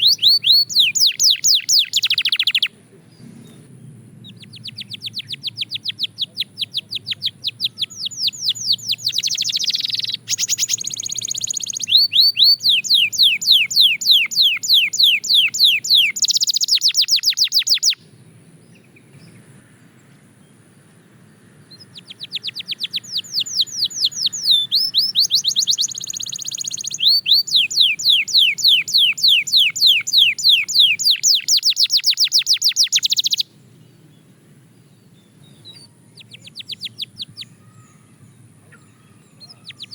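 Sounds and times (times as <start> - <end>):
canary singing fast trills: 0.0 - 2.8, 4.2 - 19.5, 21.2 - 39.9.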